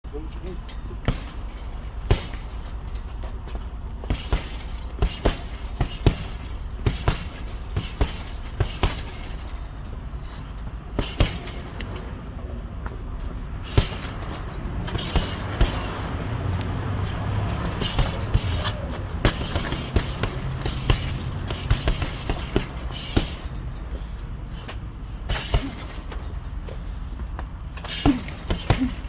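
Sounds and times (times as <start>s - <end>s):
low background rumble: 0.1s - 29.0s.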